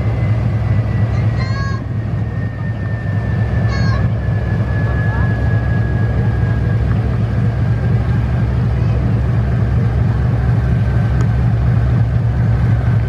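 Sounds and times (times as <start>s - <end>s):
faint high whine: 0.0s - 10.8s
diesel engines deep rumble: 0.0s - 13.0s.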